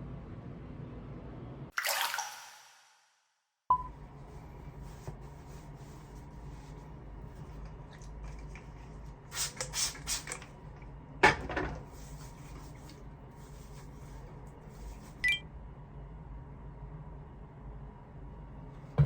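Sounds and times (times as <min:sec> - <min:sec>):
low steady hum: 0:03.7 - 0:19.0.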